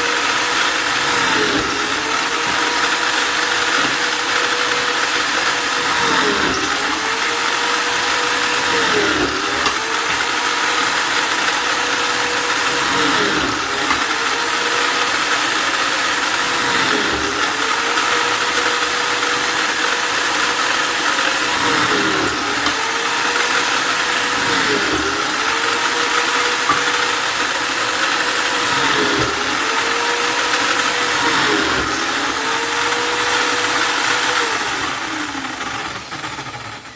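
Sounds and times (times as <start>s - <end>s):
electric drill motor whine: 0.0s - 36.9s.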